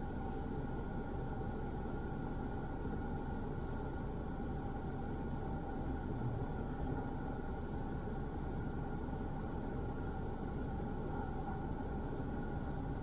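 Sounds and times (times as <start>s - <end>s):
faint steady hum: 0.0s - 13.0s
idling traffic rumble: 0.0s - 13.0s.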